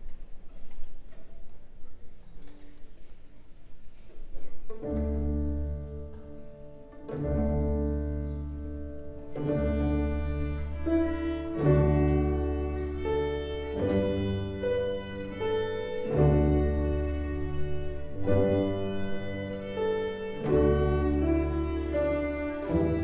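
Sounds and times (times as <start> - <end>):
string orchestra playing slowly: 2.0 - 23.0.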